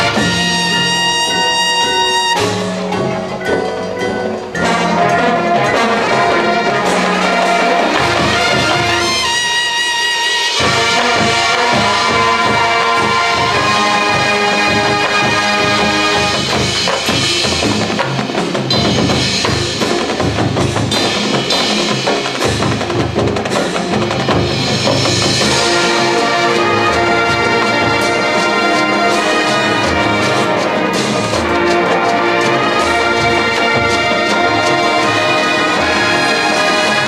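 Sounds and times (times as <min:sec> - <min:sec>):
brass chords: 0:00.0 - 0:22.0, 0:24.1 - 0:37.0
marching band drums: 0:00.0 - 0:37.0.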